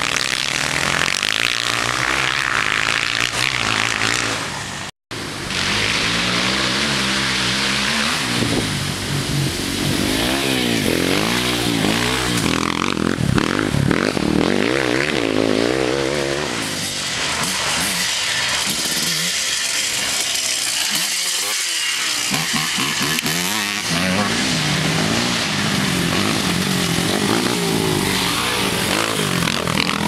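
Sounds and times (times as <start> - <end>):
quad engines revving: 0.0 - 30.0.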